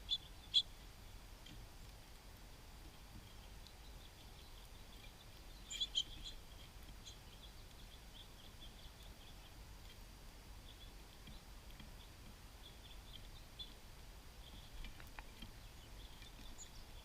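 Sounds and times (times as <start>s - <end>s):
songbirds chip calls: 0.0s - 2.0s, 2.8s - 17.0s.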